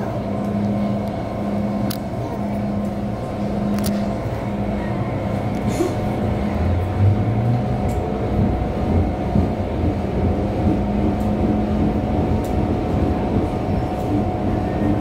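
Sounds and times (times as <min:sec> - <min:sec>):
traction equipment hum: 0:00.0 - 0:15.0
train rumbling on track: 0:00.0 - 0:15.0.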